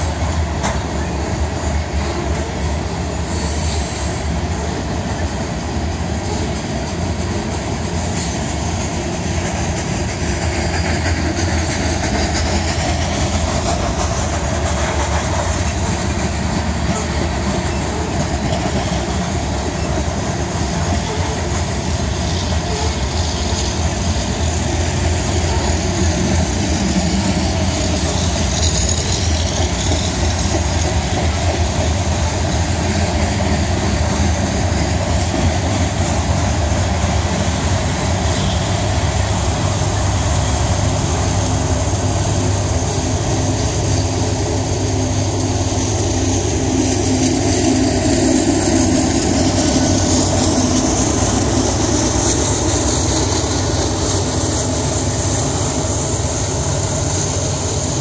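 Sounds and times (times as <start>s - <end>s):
freight train wheels rumbling: 0.0s - 58.0s
locomotive engine passing: 0.0s - 58.0s.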